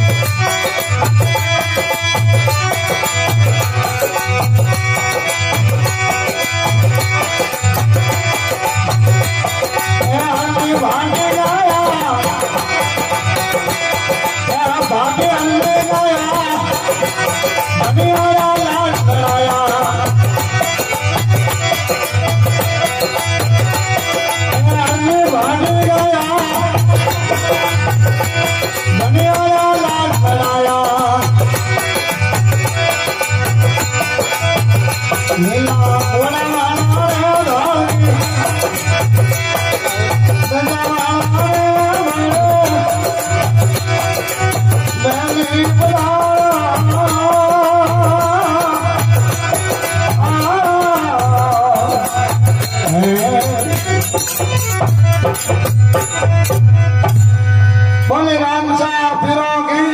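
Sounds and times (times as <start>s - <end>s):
folk devotional music: 0.0s - 59.9s.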